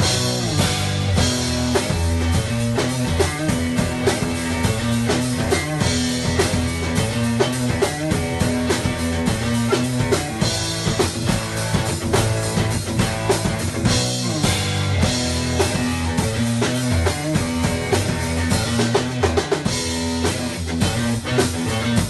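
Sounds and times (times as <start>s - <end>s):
rock music with guitar and drums: 0.0s - 22.0s.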